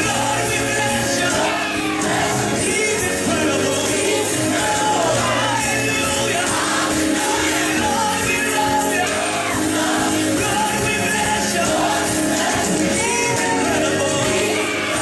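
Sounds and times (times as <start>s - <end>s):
upbeat gospel music with singing: 0.0s - 15.0s.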